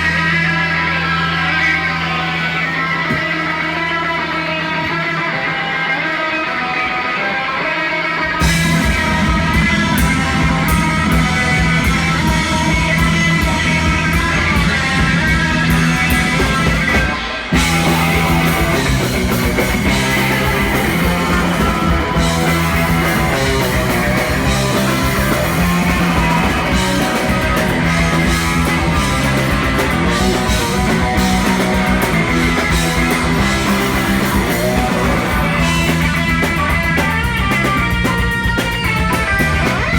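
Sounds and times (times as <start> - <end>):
electric guitar: 0.0 - 39.9
punk rock band playing live: 0.0 - 39.9.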